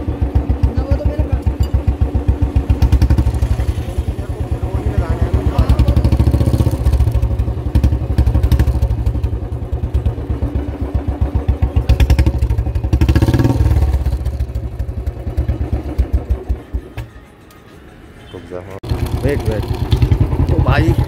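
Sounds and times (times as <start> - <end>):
motorcycle exhaust thumping: 0.0 - 17.1, 18.8 - 21.0.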